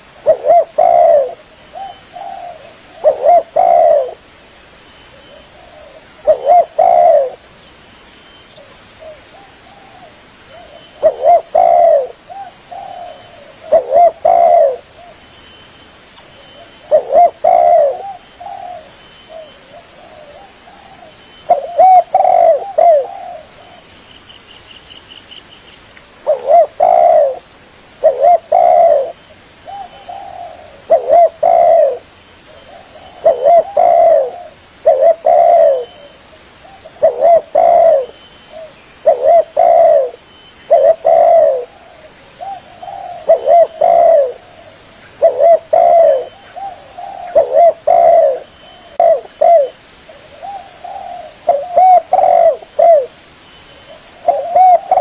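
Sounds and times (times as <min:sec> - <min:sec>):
dove cooing: 0:00.0 - 0:04.2, 0:05.1 - 0:07.5, 0:08.6 - 0:15.2, 0:16.4 - 0:23.9, 0:26.2 - 0:27.4, 0:28.0 - 0:53.2, 0:53.8 - 0:55.0.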